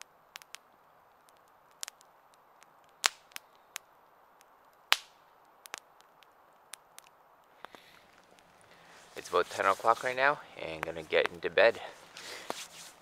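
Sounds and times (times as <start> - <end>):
campfire wood crackling and popping: 0.0 - 13.0.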